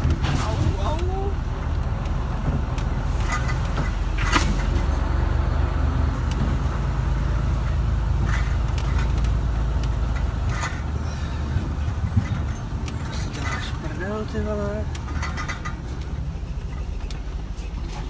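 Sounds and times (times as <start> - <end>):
knocks and rattles over bumps: 0.0 - 18.0
truck engine running: 0.0 - 18.0.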